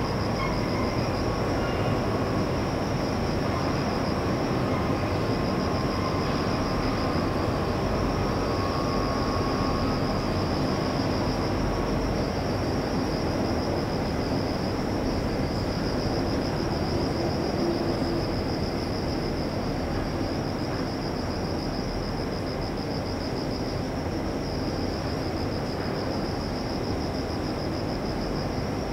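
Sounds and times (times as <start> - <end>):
insect trill: 0.0 - 28.9.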